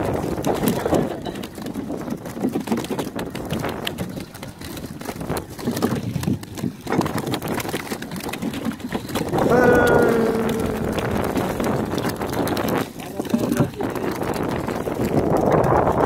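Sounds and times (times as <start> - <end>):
fish and net knocking and slapping: 0.0 - 16.0.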